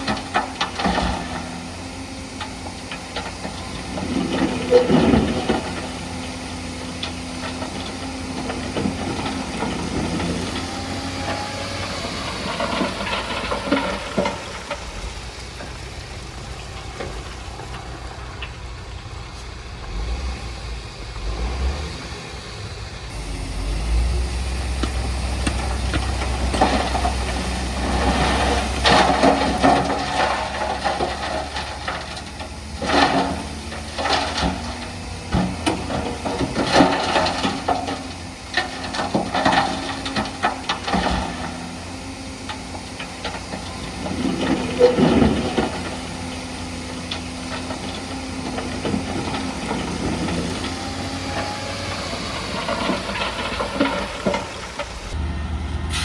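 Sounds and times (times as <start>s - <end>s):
machinery clanks and rattles: 0.0s - 55.3s
diesel engine under load: 0.0s - 56.0s.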